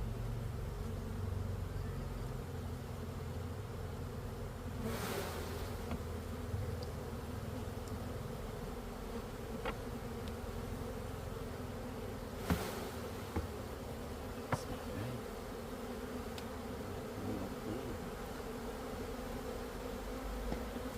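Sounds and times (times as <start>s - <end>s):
honeybees buzzing: 0.0s - 20.9s.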